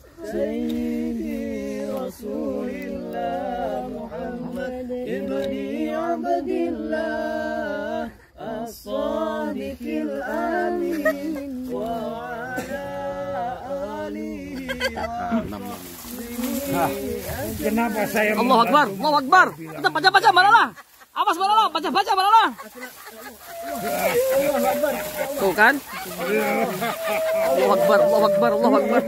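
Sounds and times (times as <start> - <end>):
voices chanting unaccompanied: 0.0 - 29.0.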